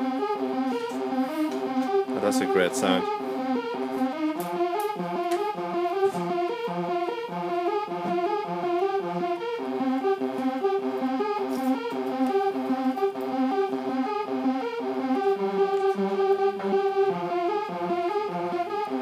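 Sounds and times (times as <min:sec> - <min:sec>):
fast electronic synth notes: 0:00.0 - 0:19.0.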